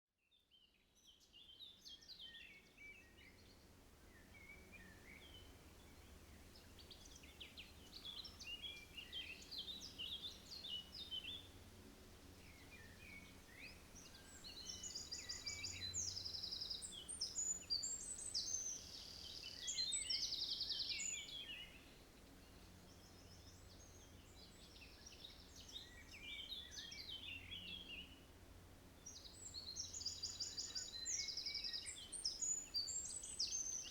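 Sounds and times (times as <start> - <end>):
songbirds singing: 1.0 - 33.9.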